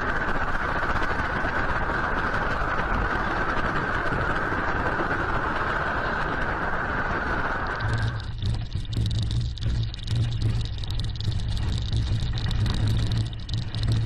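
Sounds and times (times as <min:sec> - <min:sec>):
constant microphone hiss: 0:00.0 - 0:14.0
low rumble: 0:00.0 - 0:14.0.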